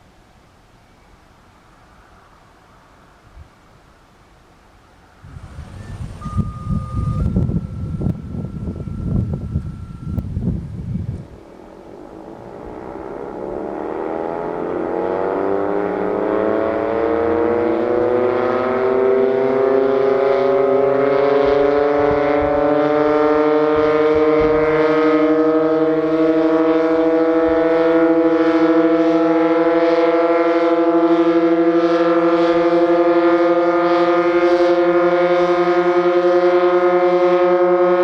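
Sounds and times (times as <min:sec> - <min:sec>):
tornado siren winding up: 0:05.1 - 0:38.0.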